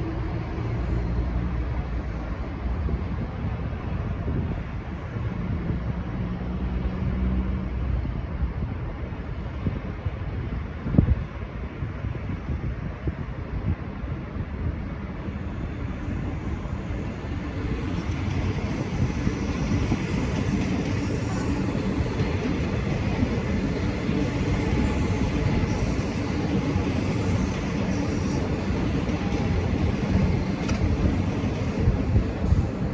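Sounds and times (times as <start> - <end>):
diesel train rumbling: 0.0 - 32.9.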